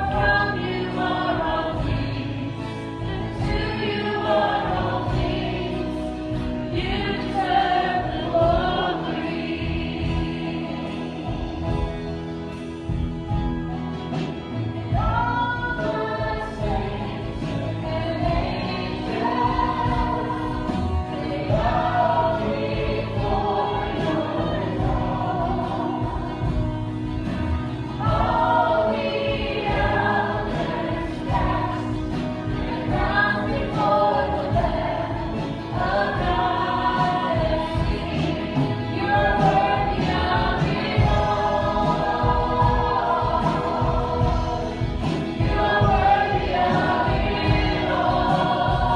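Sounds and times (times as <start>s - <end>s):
group singing gospel song: 0.0s - 48.9s
instrumental accompaniment: 0.0s - 48.9s.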